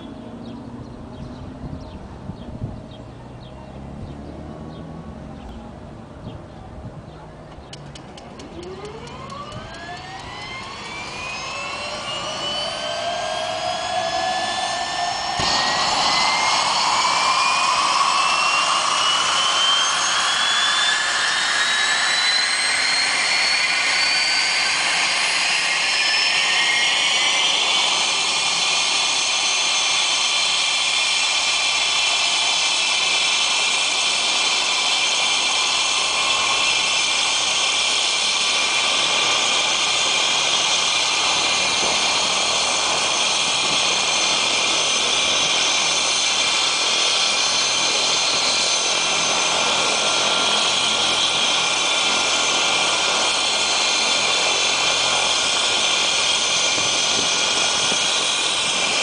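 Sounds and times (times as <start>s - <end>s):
helicopter turbine whine: 0.0s - 59.0s
rush of noise: 8.0s - 59.0s.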